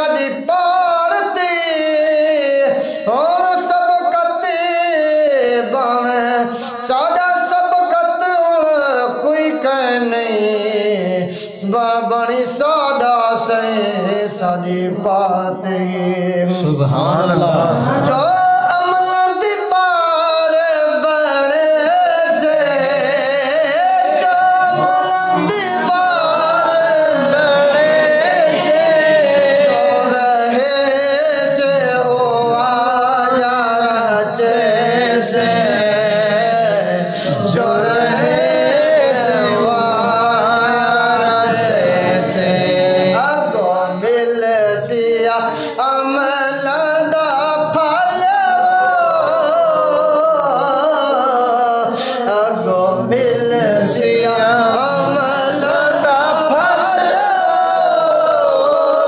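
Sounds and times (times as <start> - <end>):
man singing devotional song: 0.0 - 59.0.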